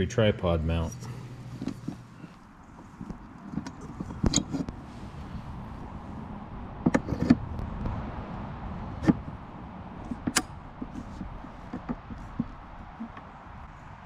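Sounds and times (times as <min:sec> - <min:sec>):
steady low background: 0:00.0 - 0:14.0.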